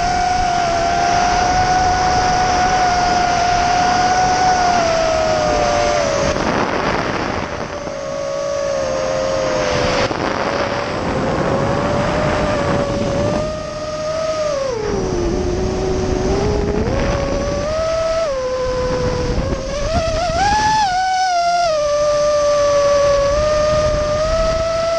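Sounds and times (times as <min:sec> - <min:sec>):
quadcopter motors whining: 0:00.0 - 0:24.9.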